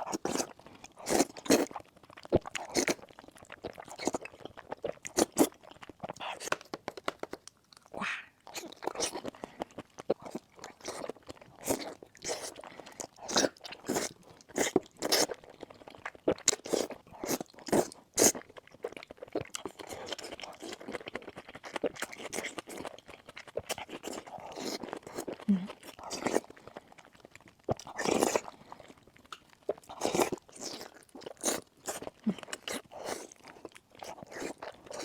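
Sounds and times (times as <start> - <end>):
crunching and chewing food: 0.0 - 35.0.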